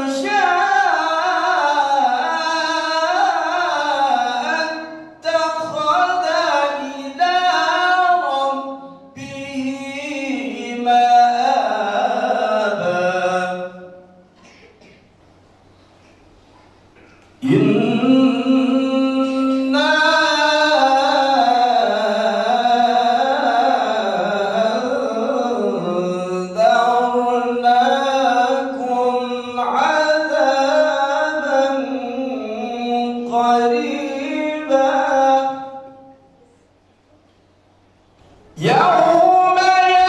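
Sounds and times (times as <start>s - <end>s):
man reciting melodically: 0.0s - 14.2s, 17.4s - 36.1s, 38.4s - 40.0s.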